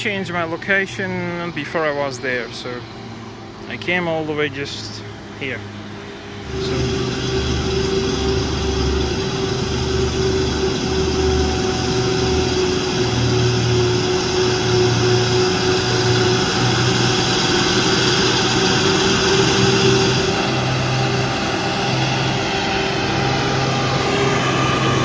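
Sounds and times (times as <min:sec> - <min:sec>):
truck engine climbing: 0:00.0 - 0:25.0.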